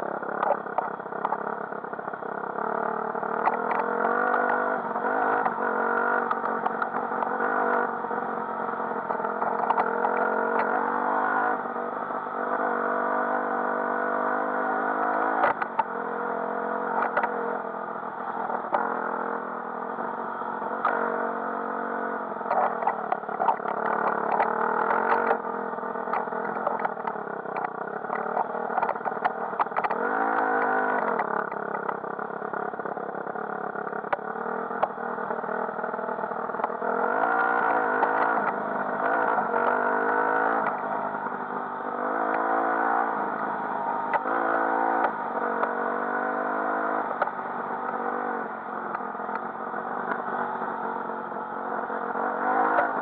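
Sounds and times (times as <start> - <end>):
dirt bike engine revving: 2.3 - 32.6, 33.3 - 53.0.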